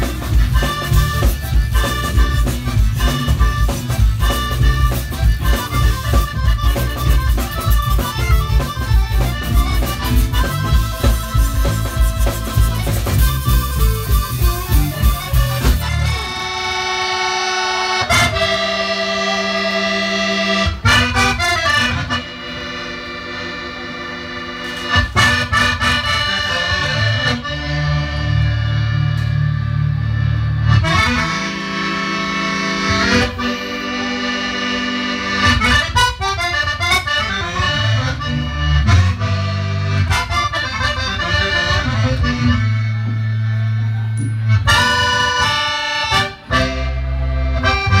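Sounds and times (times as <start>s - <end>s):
accordion chords: 0.0s - 48.0s
bass line: 0.0s - 48.0s
drums: 0.0s - 48.0s.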